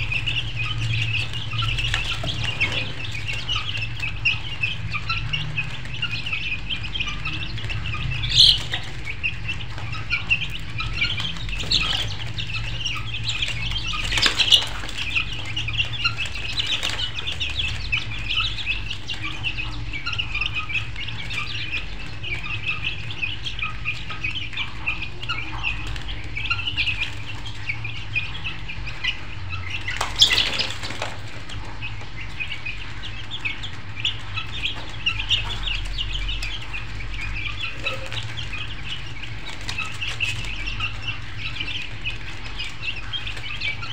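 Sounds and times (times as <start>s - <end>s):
birds chirping: 0.0s - 43.9s
low steady hum: 0.0s - 43.9s.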